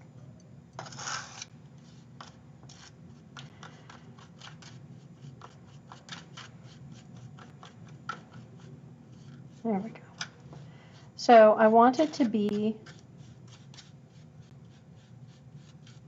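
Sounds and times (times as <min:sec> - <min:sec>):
clay paste scraped in a cup: 0:00.8 - 0:16.0.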